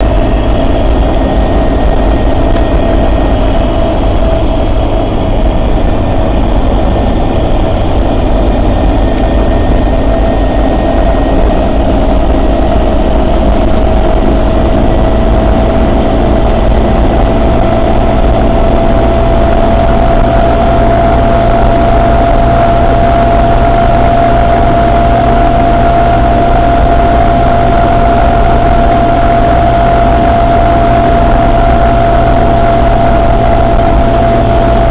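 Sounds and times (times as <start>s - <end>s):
steady rising whine: 0.0s - 34.9s
vehicle engine rumbling: 0.0s - 34.9s.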